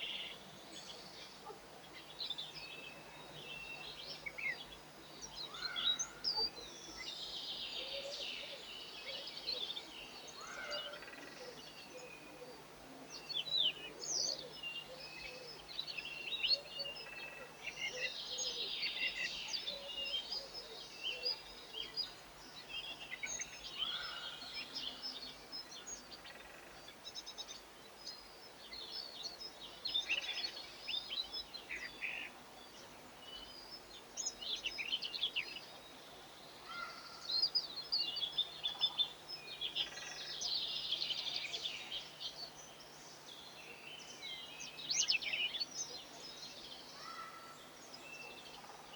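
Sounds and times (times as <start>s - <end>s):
songbirds chirping and twittering: 0.0s - 48.9s.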